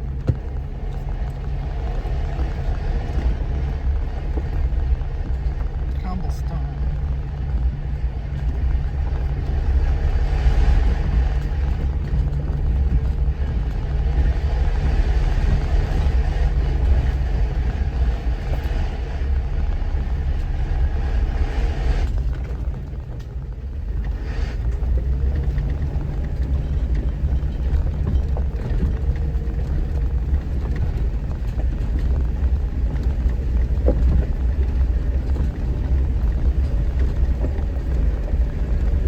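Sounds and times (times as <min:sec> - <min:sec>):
vehicle engine rumble: 0:00.0 - 0:39.0.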